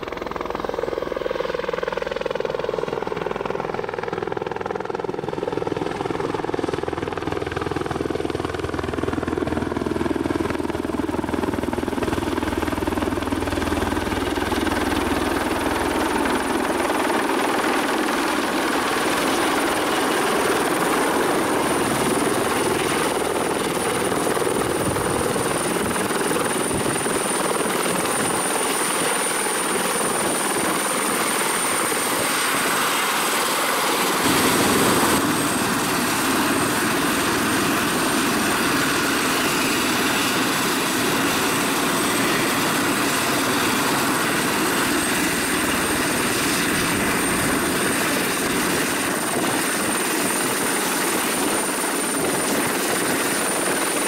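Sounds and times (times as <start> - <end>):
helicopter rotor and turbine whine: 0.0 - 54.0.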